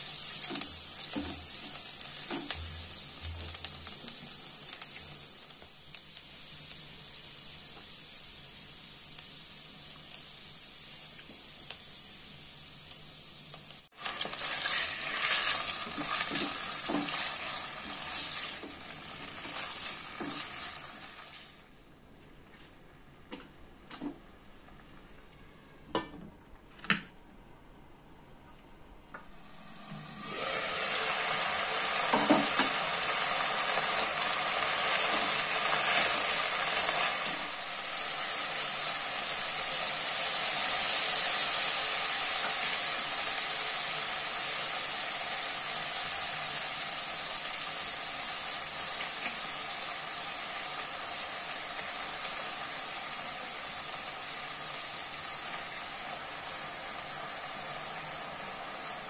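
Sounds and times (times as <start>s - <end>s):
chicken sizzling in oil: 0.0s - 21.7s, 29.3s - 59.0s.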